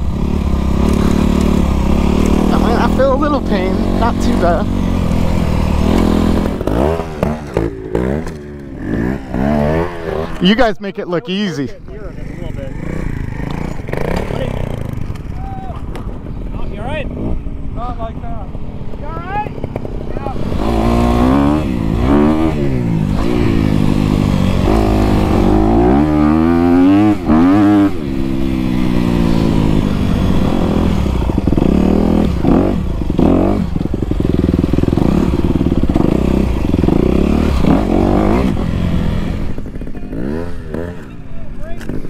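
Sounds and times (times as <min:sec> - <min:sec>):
motorcycle engine revving: 0:00.0 - 0:10.6, 0:11.9 - 0:42.0.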